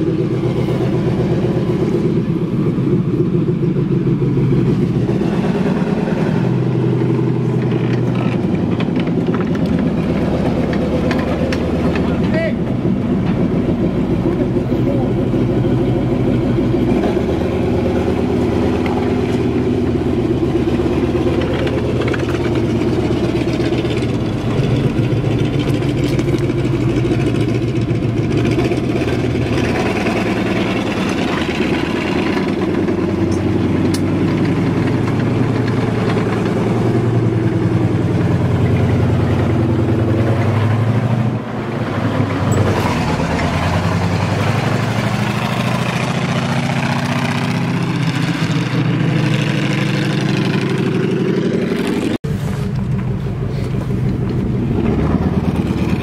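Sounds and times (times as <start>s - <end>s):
tank engine running: 0.0s - 56.0s.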